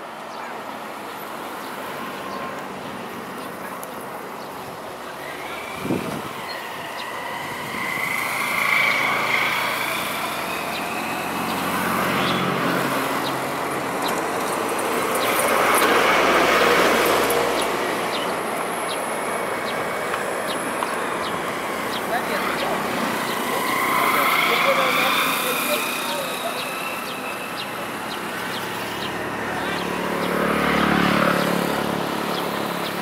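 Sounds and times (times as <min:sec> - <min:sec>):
distant engine: 0:00.2 - 0:33.0.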